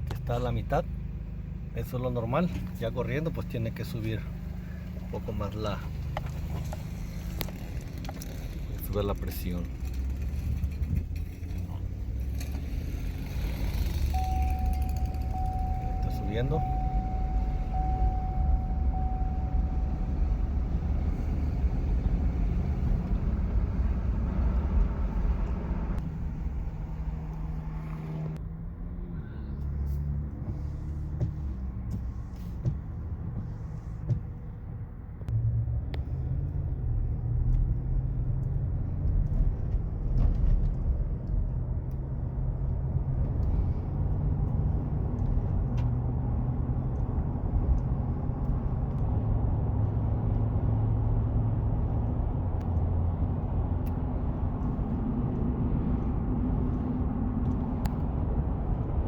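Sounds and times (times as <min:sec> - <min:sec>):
engine low rumble: 0:00.0 - 0:59.0.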